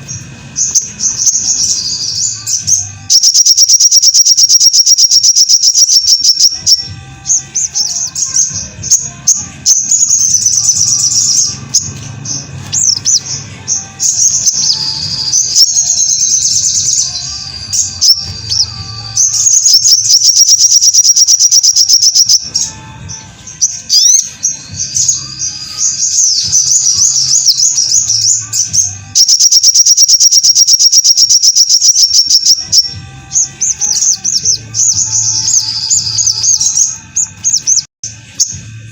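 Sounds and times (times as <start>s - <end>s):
bird song fast high notes: 0.0s - 37.9s
bird rapid warbling: 0.0s - 38.5s.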